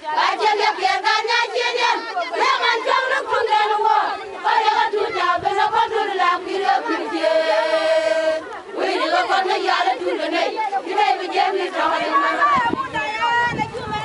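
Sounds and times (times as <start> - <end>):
women singing and chanting: 0.0 - 14.0.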